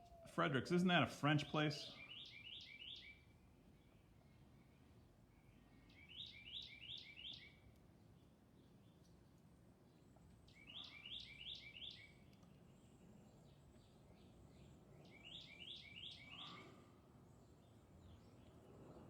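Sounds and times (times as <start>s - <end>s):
faint background noise: 0.0s - 19.0s
songbird chirping: 0.0s - 19.0s.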